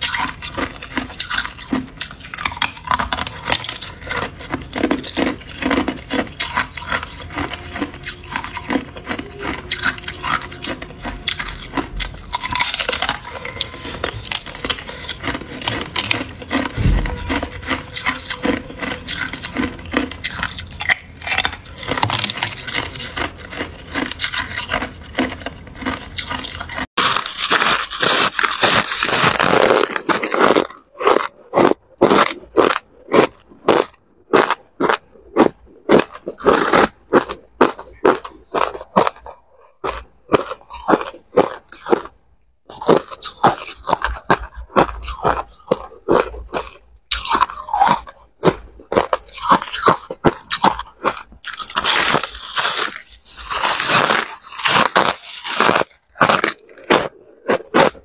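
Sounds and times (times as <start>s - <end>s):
ice crunching: 0.0s - 42.1s, 42.7s - 58.0s
chewing crushed ice: 0.0s - 58.0s.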